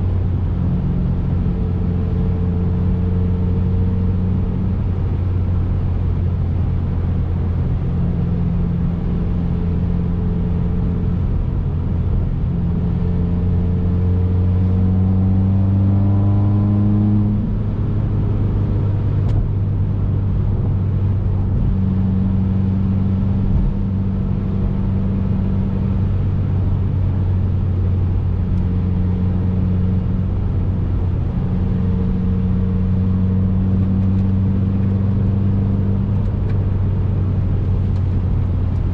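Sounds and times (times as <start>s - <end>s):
car engine accelerating: 0.0s - 38.9s
road noise: 0.0s - 38.9s.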